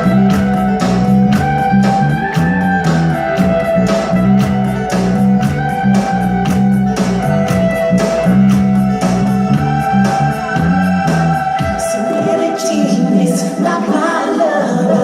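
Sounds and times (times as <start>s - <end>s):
steady drum beat: 0.0s - 12.1s
bass line: 0.0s - 13.0s
electric guitar: 0.0s - 13.7s.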